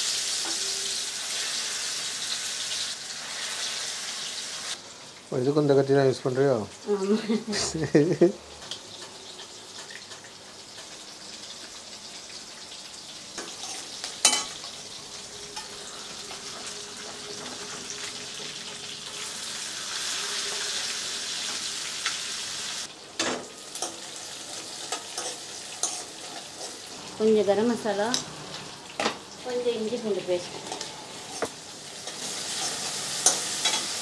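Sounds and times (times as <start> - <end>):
oil sizzling in a pan: 0.0 - 34.0.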